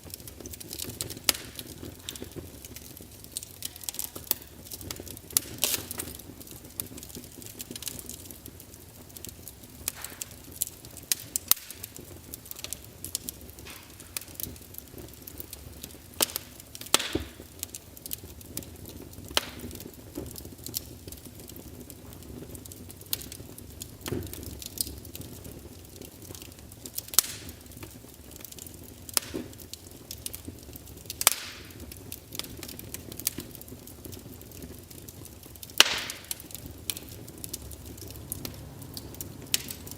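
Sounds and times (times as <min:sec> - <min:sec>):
fire crackling: 0:00.0 - 0:39.9
logs popping: 0:00.0 - 0:39.9
low hiss of burning: 0:00.0 - 0:39.9.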